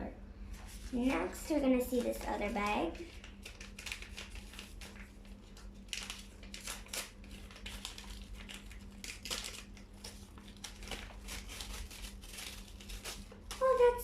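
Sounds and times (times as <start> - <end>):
packaging crinkling and rustling: 0.6 - 14.0.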